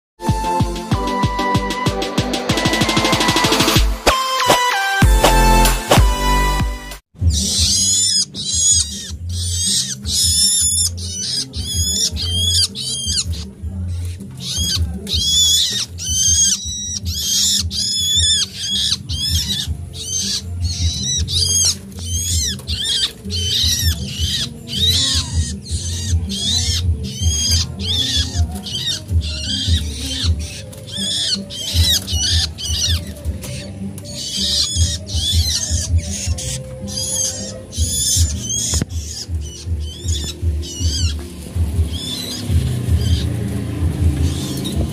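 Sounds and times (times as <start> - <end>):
nestling birds chirping: 2.3 - 44.9.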